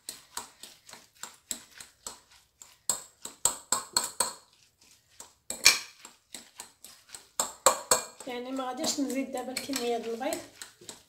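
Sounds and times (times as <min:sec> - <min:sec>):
hand squishing wet mixture in bowl: 0:00.0 - 0:11.0.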